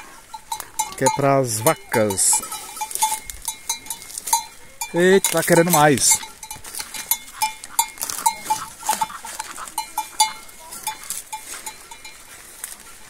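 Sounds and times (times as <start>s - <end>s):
cow bell clinking: 0.0s - 13.0s.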